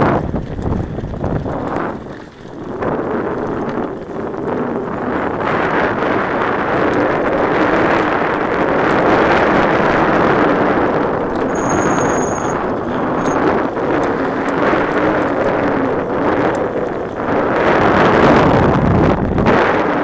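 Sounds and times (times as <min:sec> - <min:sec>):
bike tyres rolling on gravel: 0:00.0 - 0:20.0
wind on microphone: 0:00.0 - 0:20.0.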